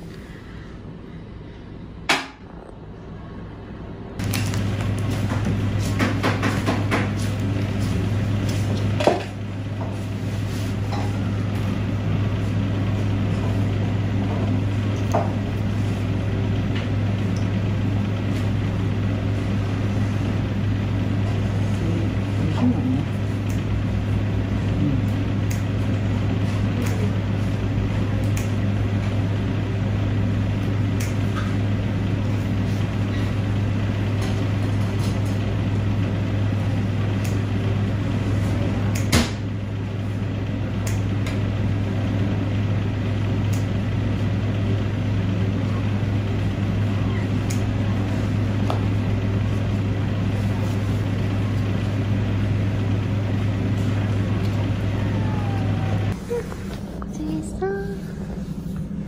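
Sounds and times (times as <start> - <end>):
low mechanical machine hum: 0.0 - 59.0.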